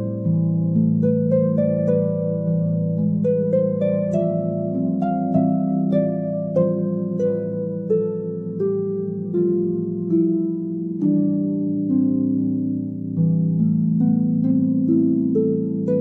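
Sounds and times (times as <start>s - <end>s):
plucked harp-like melody: 0.0s - 16.0s.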